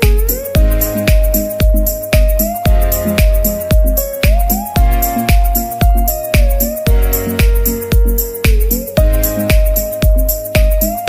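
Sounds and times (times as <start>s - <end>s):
deep kick drum beat: 0.0s - 11.0s
electronic music: 0.0s - 11.0s.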